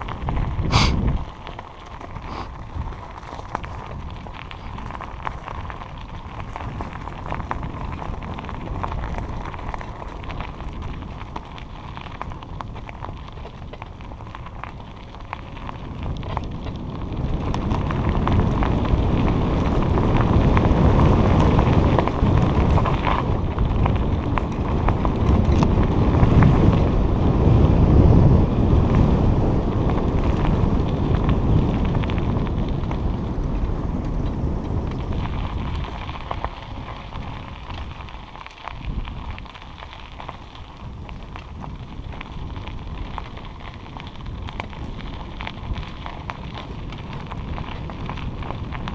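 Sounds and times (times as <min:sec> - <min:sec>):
bike tyres rolling on trail: 0:00.0 - 0:48.9
wind buffeting microphone: 0:00.0 - 0:48.9.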